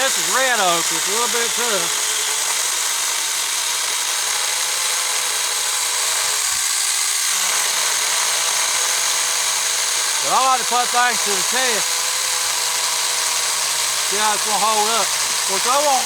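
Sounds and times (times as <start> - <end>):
electric chainsaw cutting wood: 0.0 - 16.0.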